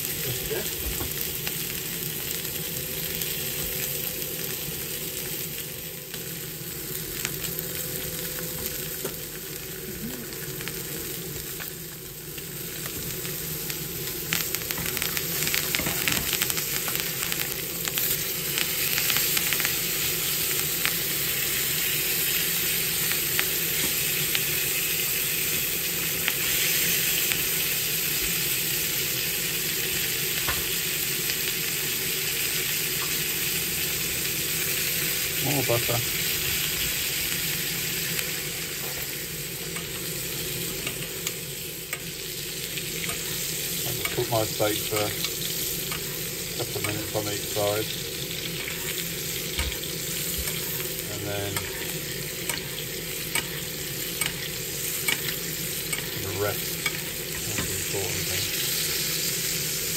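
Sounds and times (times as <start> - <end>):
steak sizzling in a frying pan: 0.0 - 59.9.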